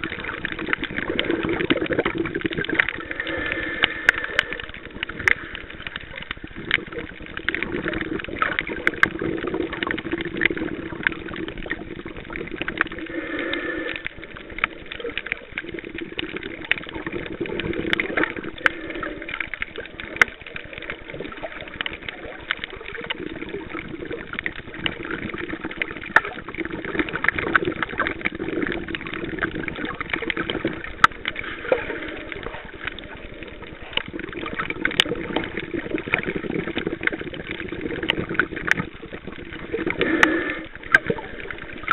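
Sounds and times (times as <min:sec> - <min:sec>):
muffled underwater water wash: 0:00.0 - 0:41.9
sharp clicks and crackles: 0:00.0 - 0:41.9.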